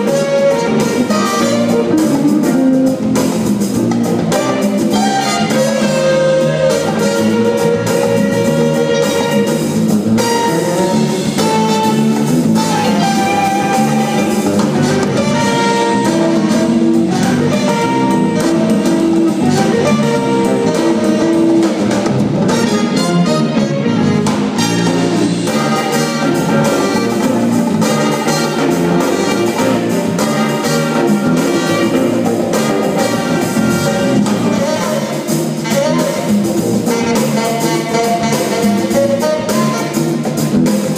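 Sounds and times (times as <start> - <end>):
jazz-funk band playing: 0.0 - 40.9.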